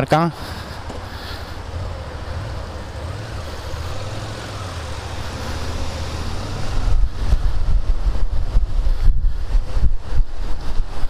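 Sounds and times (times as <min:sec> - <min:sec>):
wind noise on microphone: 0:00.5 - 0:11.0
motorcycle engine accelerating: 0:01.0 - 0:11.0.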